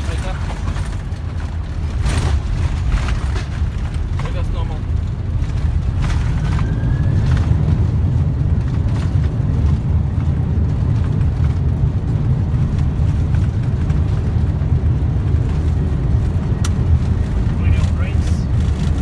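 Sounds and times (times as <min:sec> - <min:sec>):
jet engines: 0:00.0 - 0:19.0
wheels rumbling on runway: 0:00.0 - 0:19.0.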